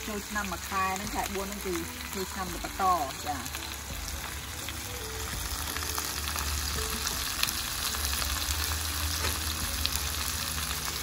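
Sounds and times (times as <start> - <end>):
food sizzling in a skillet: 0.0 - 11.0.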